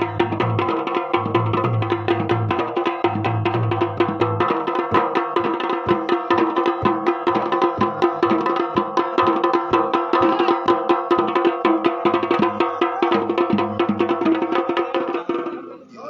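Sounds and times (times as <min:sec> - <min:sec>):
fast drumming: 0:00.0 - 0:15.7.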